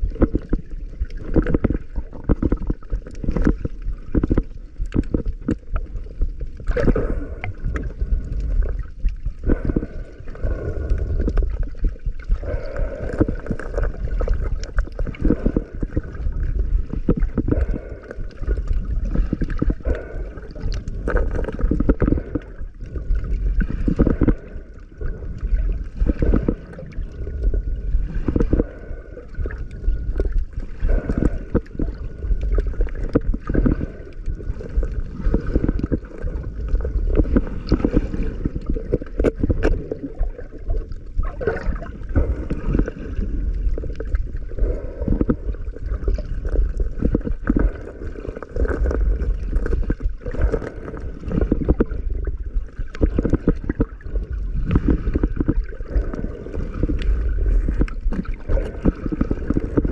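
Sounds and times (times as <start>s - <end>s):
muffled underwater sloshing: 0.0s - 59.9s
underwater crackles: 0.0s - 59.9s.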